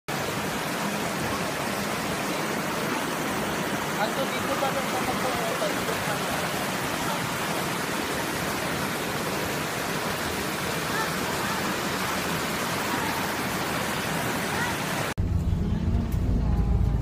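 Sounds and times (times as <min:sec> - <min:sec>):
water rushing over cascade: 0:00.1 - 0:15.2.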